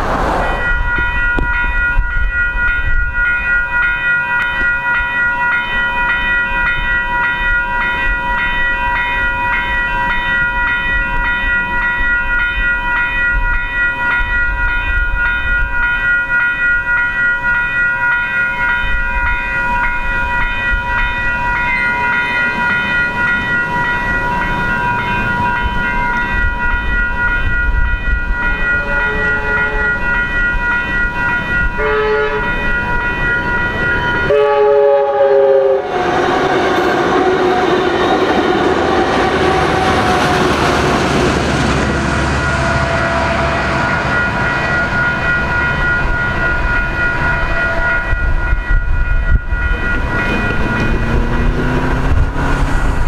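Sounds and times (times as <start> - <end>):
crossing warning bells ringing: 0.0 - 53.0.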